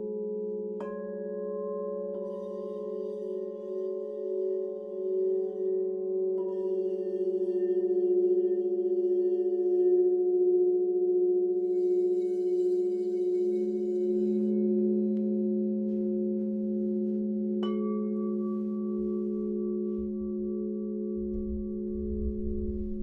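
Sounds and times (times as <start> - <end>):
singing bowls ringing: 0.0 - 23.0.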